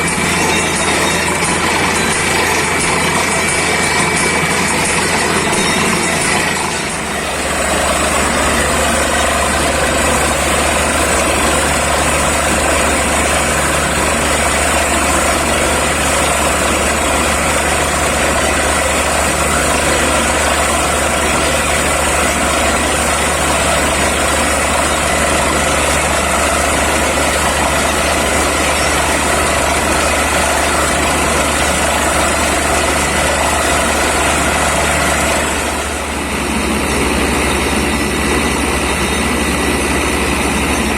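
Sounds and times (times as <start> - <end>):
drilling rig engine drone: 0.0 - 40.9.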